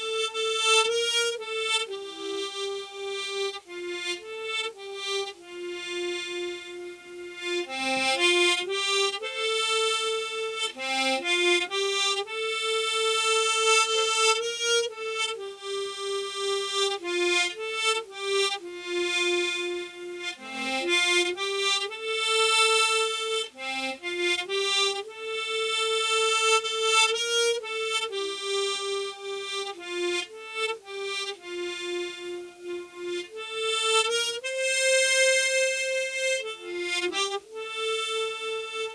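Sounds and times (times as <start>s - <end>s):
solo harmonica melody: 0.0s - 38.9s.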